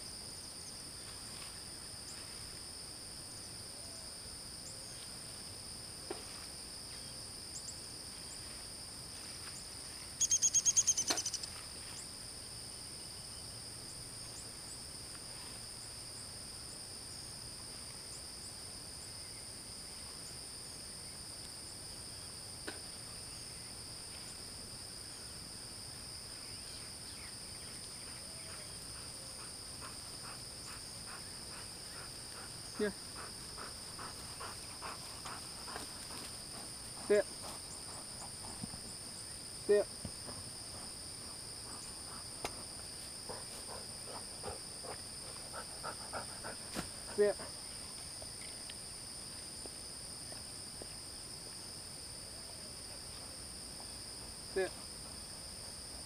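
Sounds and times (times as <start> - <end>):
insects droning: 0.0 - 56.0
rapid pulsing insect trill: 0.0 - 56.0.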